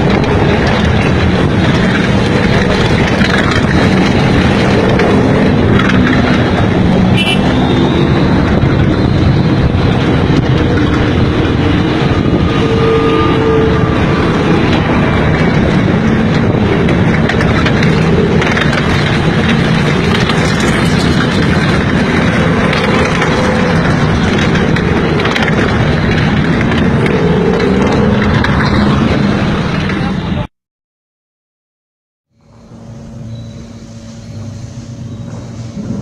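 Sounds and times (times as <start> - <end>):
vehicle engine noise: 0.0 - 30.5, 32.3 - 36.0.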